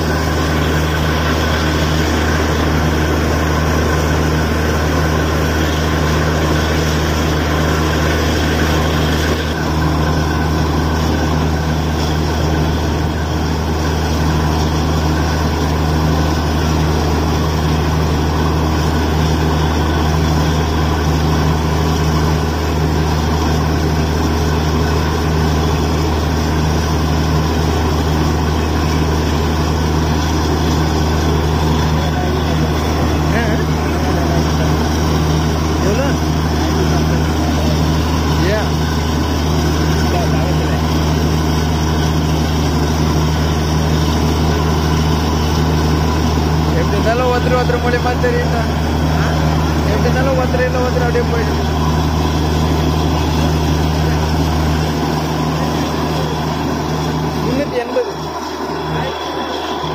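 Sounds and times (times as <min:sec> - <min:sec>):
drilling rig engine drone: 0:00.0 - 0:59.9
water and slurry blowing out: 0:00.0 - 0:59.9.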